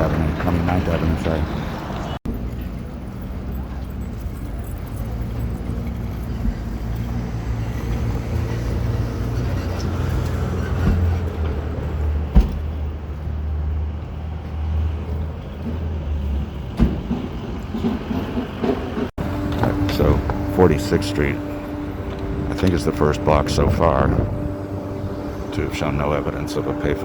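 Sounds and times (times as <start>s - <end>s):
vehicle engine drone: 0.0s - 16.8s, 19.0s - 27.0s.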